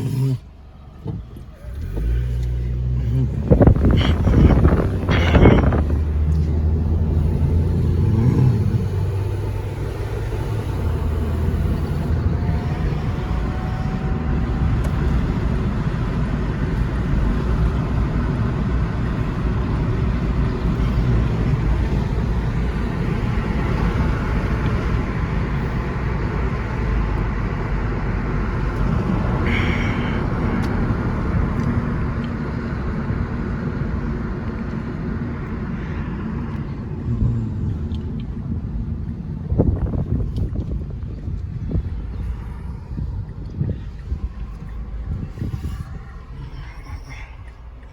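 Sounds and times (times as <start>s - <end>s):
car engine rumble: 0.0s - 47.9s
tyre noise on road: 0.0s - 47.9s.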